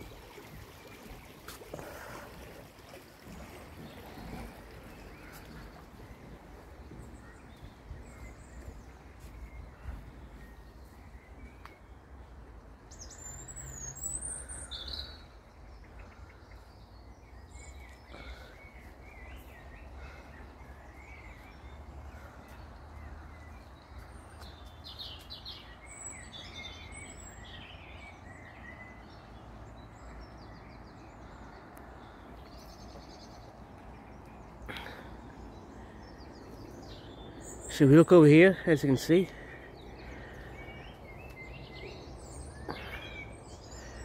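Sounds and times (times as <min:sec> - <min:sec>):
birds singing and chirping: 0:00.0 - 0:44.0.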